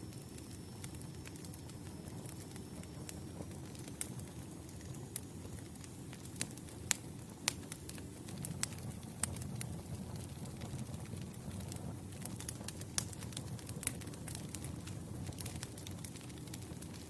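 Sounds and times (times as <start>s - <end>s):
logs crackling and popping: 0.0s - 17.0s
low rumble of campfire flame: 0.0s - 17.0s.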